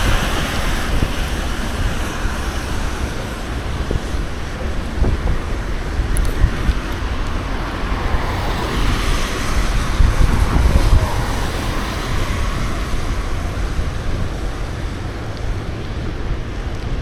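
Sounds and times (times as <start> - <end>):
road traffic noise: 0.0 - 17.0
wind buffeting microphone: 0.0 - 17.0.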